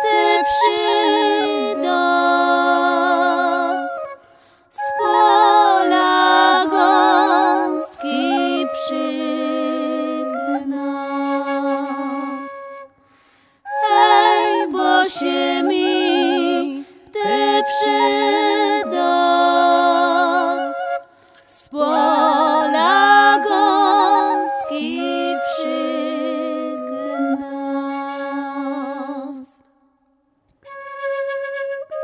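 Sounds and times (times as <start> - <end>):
women singing in harmony: 0.0 - 12.7, 13.7 - 29.7.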